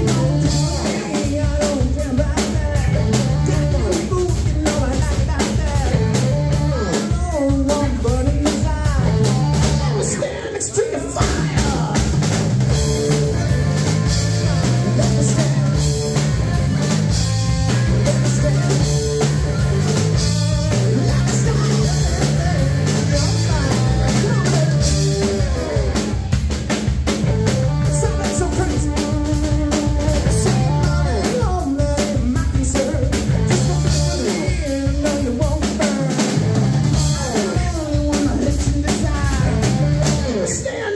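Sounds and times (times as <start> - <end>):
man singing: 0.0 - 26.3, 27.2 - 40.9
bass guitar: 0.0 - 40.9
distorted electric guitar: 0.0 - 40.9
drum kit beat: 0.0 - 40.9.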